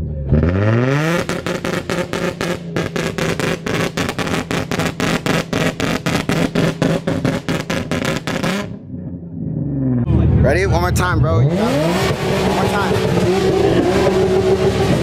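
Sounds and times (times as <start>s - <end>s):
car engine at rev limiter: 0.0s - 15.0s.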